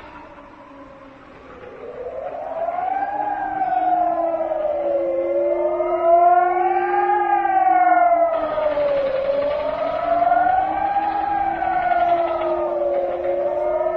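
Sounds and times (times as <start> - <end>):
siren wailing: 0.0 - 13.9.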